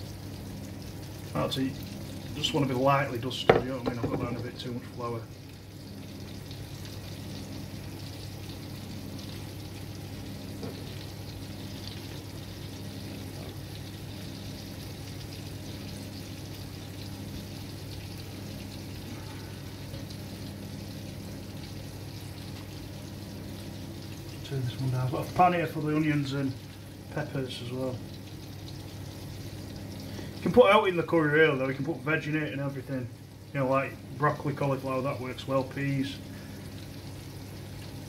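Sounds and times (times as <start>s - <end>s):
fish frying in oil: 0.0s - 38.0s.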